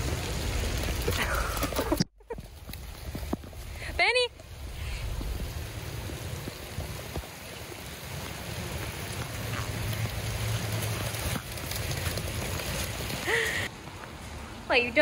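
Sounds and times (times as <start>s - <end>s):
rain falling on lawn: 0.0s - 14.1s.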